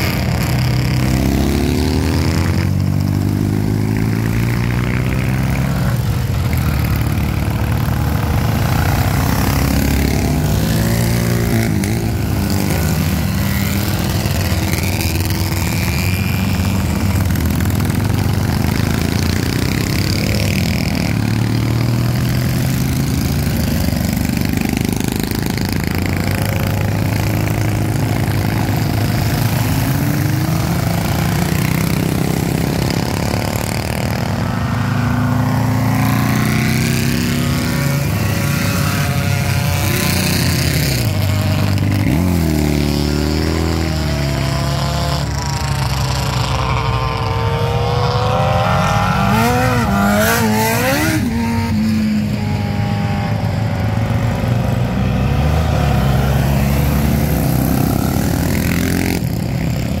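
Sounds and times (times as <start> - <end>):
motorcycle engines revving: 0.0 - 60.0.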